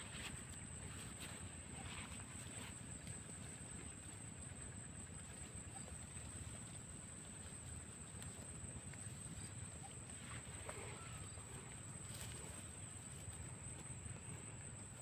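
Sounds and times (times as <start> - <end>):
faint ticks and rustles: 0.0 - 15.0.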